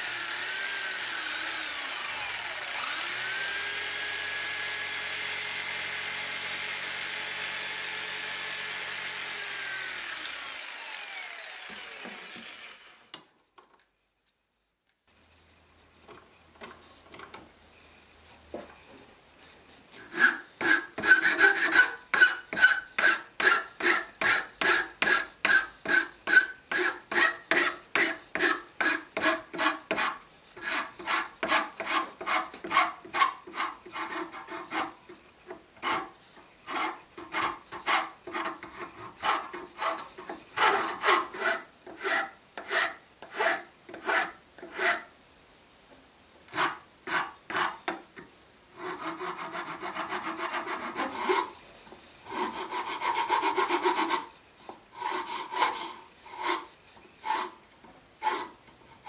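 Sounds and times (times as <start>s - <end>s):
file rasping on wood: 0.2s - 7.7s, 8.3s - 12.9s, 19.9s - 45.1s, 46.5s - 48.0s, 48.8s - 51.6s, 52.2s - 57.6s, 58.2s - 59.0s.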